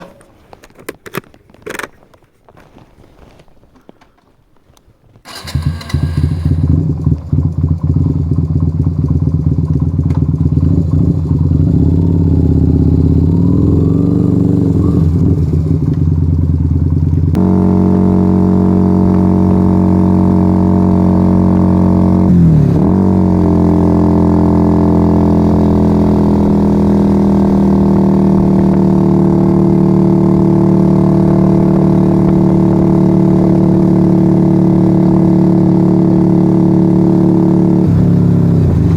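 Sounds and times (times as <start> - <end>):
motorcycle engine starting and idling: 5.2 - 38.9.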